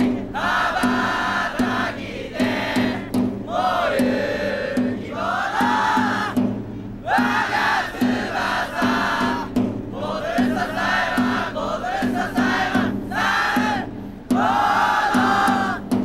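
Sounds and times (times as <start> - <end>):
crowd shouting a chant: 0.0 - 6.4, 7.0 - 15.9
steady drumbeat: 0.0 - 16.0.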